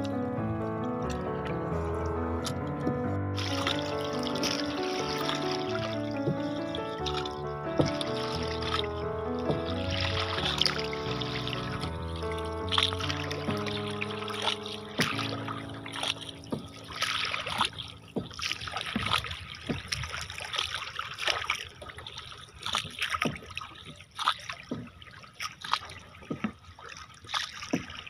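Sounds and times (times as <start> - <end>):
moving water wash: 0.0 - 28.0
paddle splashing in water: 0.0 - 28.0
water drips: 0.0 - 28.0.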